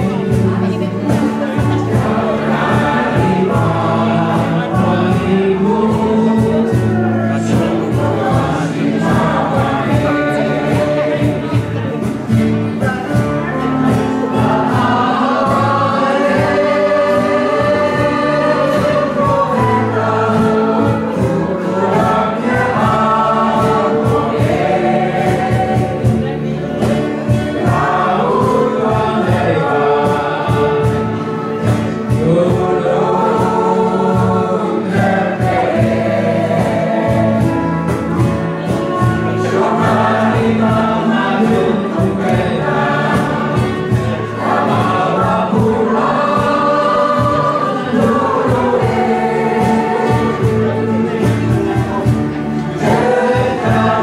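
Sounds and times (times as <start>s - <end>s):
bass guitar: 0.0s - 54.0s
choir singing in unison: 0.0s - 54.0s
guitars: 0.0s - 54.0s
percussion beat: 0.0s - 54.0s.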